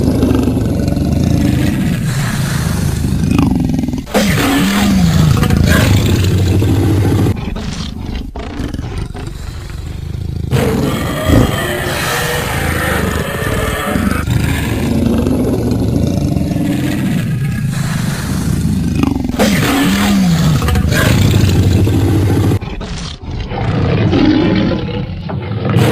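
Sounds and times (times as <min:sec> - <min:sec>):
cartoon lion roaring: 0:00.0 - 0:25.9.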